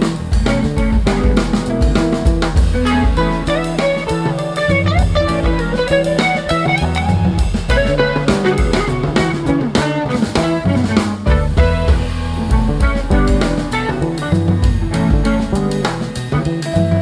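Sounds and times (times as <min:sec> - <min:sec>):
upbeat band music: 0:00.0 - 0:17.0.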